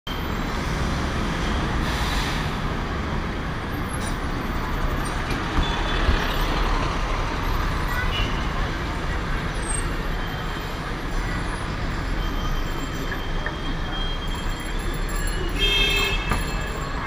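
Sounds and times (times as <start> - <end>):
city traffic rumble: 0.0 - 17.0
bus passing alongside: 0.1 - 15.6.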